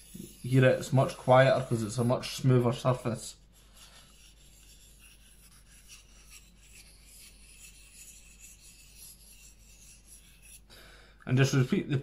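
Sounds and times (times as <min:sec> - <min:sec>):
knife rasping on sharpener: 0:00.0 - 0:02.8, 0:03.6 - 0:10.7.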